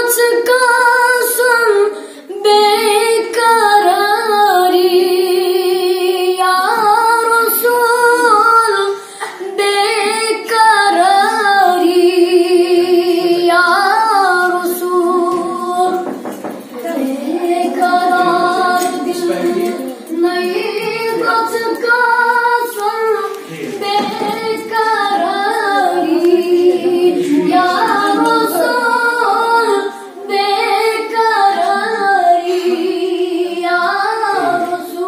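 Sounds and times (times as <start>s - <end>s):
girl singing unaccompanied: 0.0s - 35.0s.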